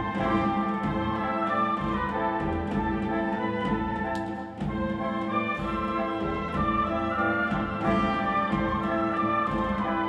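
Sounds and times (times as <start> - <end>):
wind band playing held chords: 0.0 - 10.0.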